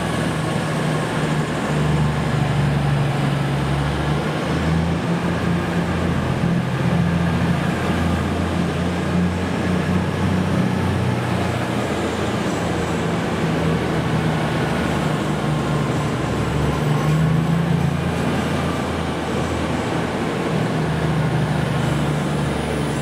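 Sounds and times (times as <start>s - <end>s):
diesel train engines droning: 0.0s - 23.0s.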